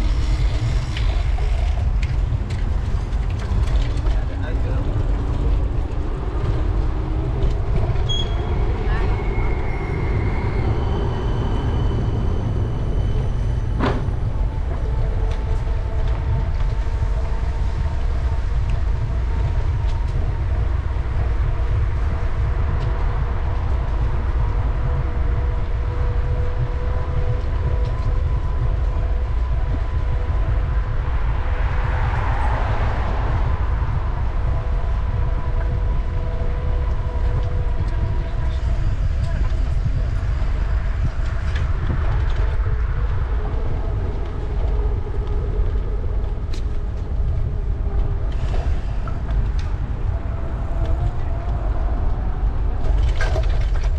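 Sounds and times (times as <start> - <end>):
street noise: 0.0 - 53.9
wind rumbling on microphone: 0.0 - 53.9.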